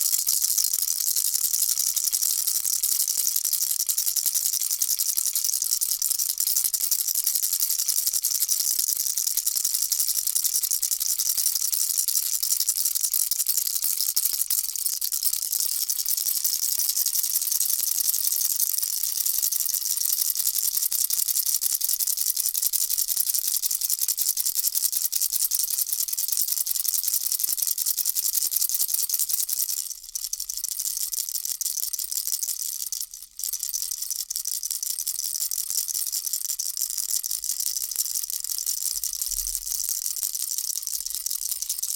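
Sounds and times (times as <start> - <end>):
baby rattle shaken: 0.0 - 41.9.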